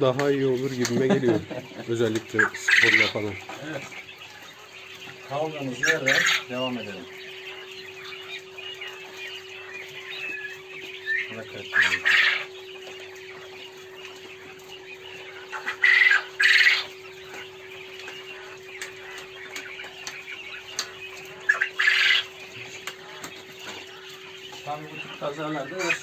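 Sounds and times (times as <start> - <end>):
faint bird chatter: 0.0 - 26.0
poultry squawking: 0.0 - 26.0
steady hum: 0.0 - 26.0.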